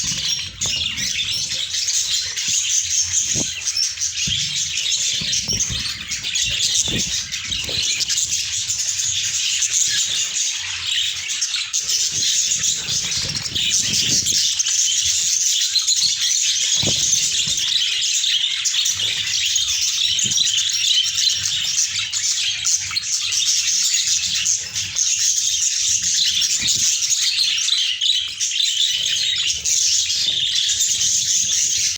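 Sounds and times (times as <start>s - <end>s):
budgerigars chattering and warbling: 0.0s - 31.9s.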